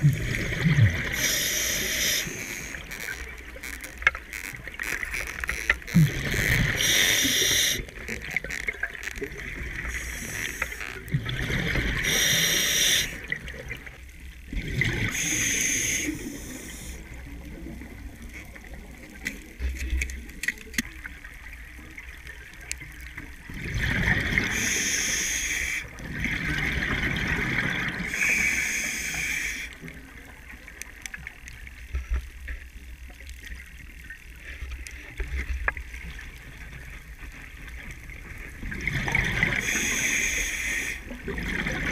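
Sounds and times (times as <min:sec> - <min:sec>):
regulator bubbles exhaled underwater: 0:00.0 - 0:20.3, 0:20.9 - 0:31.7, 0:37.0 - 0:41.9
low underwater noise: 0:00.0 - 0:41.9.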